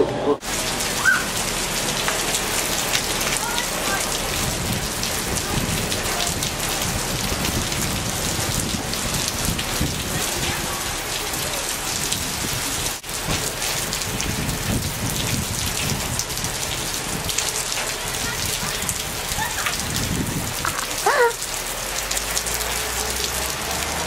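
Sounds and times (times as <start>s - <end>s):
heavy rain on wet pavement: 0.4s - 24.0s.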